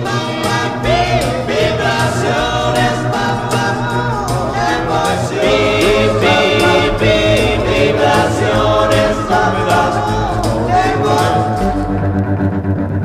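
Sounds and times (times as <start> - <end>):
group vocal harmonies: 0.0 - 12.2
bass line: 0.0 - 13.0.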